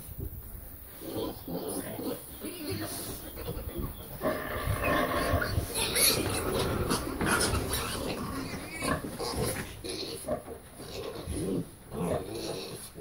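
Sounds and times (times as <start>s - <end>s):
pigs grunting: 0.9s - 13.0s.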